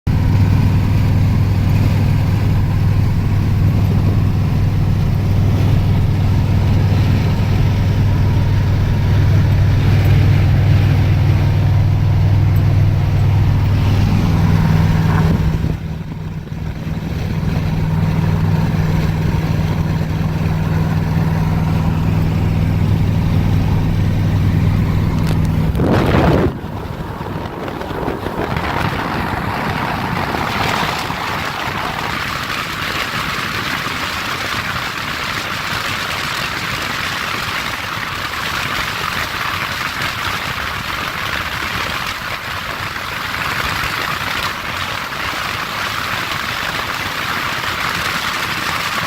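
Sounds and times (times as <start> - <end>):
car engine droning: 0.1 - 49.0.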